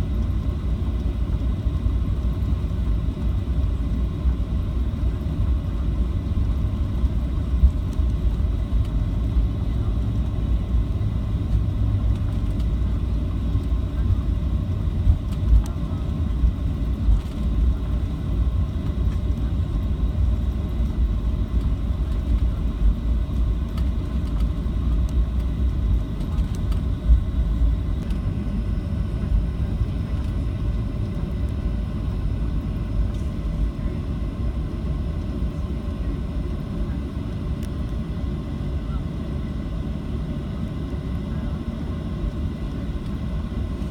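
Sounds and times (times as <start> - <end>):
aircraft cabin engine rumble: 0.0 - 43.9.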